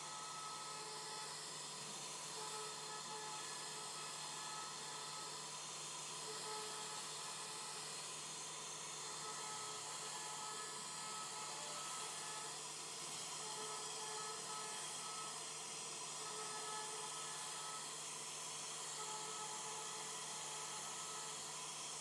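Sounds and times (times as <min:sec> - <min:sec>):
router spindle carving wood: 0:00.0 - 0:22.0.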